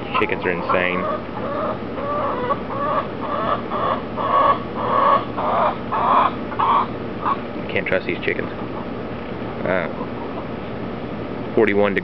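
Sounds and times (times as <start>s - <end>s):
chicken squawking: 0.0s - 7.6s, 8.3s - 10.6s.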